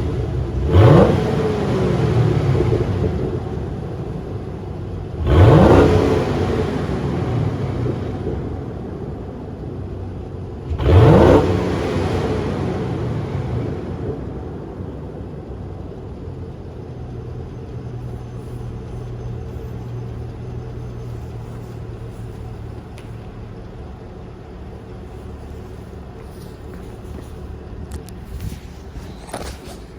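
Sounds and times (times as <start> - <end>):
car engine revving and idling: 0.0 - 29.9
exhaust snaps and crackles: 0.0 - 29.9.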